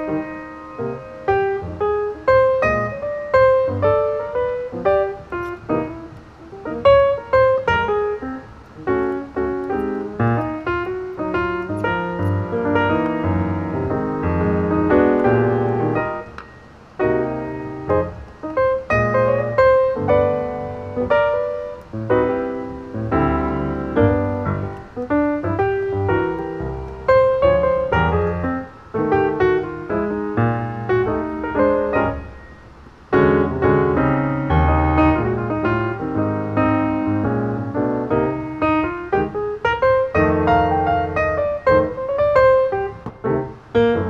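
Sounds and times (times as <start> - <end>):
piano music: 0.0 - 44.0.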